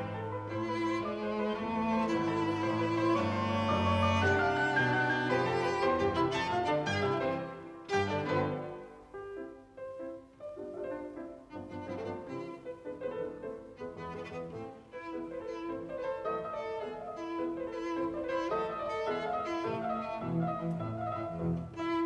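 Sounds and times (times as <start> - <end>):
bowed strings background music: 0.0 - 9.0, 11.2 - 22.0.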